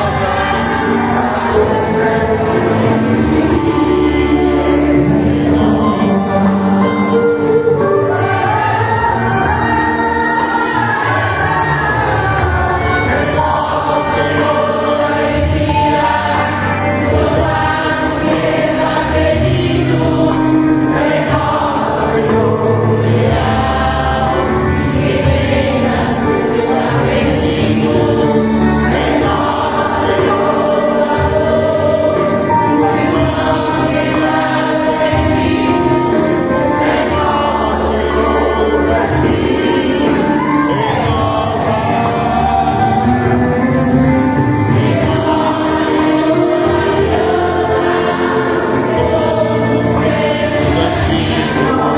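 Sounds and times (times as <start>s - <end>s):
choir singing a hymn with instruments: 0.0s - 51.9s.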